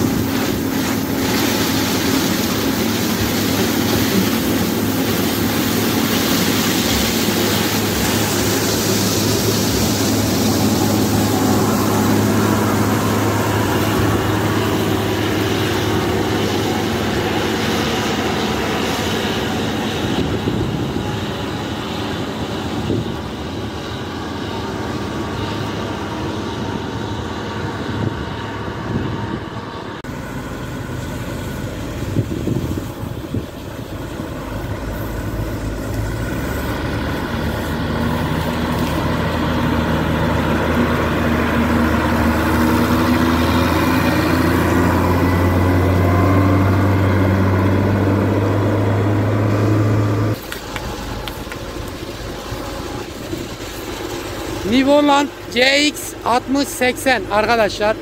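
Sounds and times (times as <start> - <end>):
combine harvester running: 0.0 - 58.0
heavy diesel engine noise: 0.0 - 58.0
lorry engine driving off: 0.0 - 58.0.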